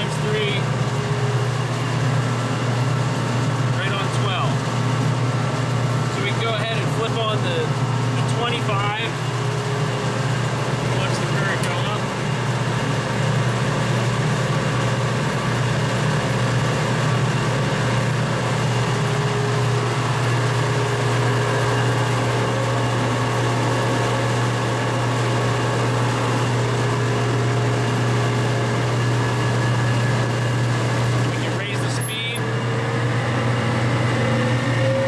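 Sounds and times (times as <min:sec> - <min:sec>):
test stand machine hum: 0:00.0 - 0:35.0.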